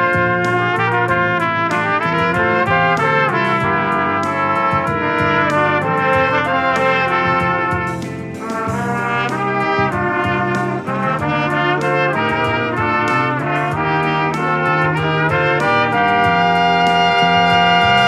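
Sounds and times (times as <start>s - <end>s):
trumpet trio playing: 0.0s - 18.0s.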